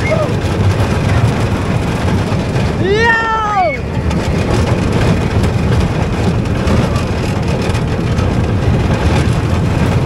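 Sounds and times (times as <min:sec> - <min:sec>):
ride rumbling: 0:00.0 - 0:10.0.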